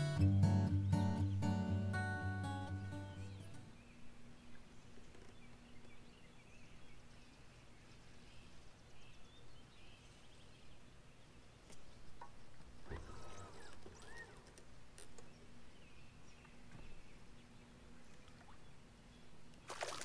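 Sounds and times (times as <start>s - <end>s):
faint steady low hum: 3.0s - 20.0s.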